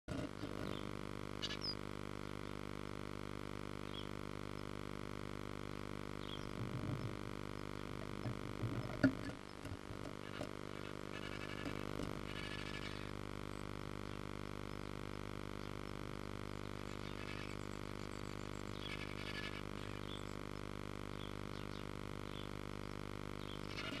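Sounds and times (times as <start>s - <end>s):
electrical hum: 0.1s - 24.0s.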